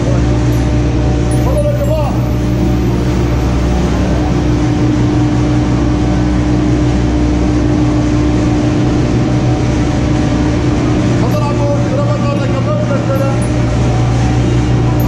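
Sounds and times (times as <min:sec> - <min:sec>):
lift machinery humming: 0:00.0 - 0:15.0.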